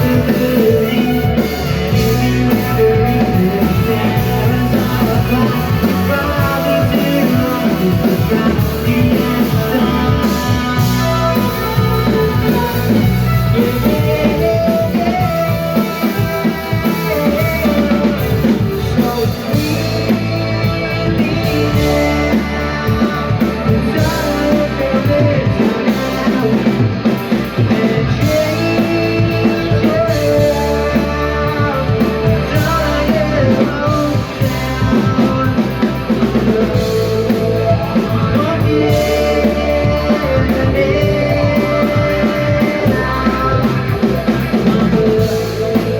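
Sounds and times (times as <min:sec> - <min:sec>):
rock band playing: 0:00.0 - 0:45.9.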